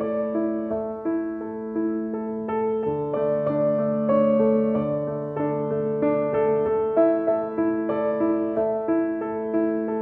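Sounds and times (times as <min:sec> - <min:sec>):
gentle electric piano music: 0:00.0 - 0:10.0.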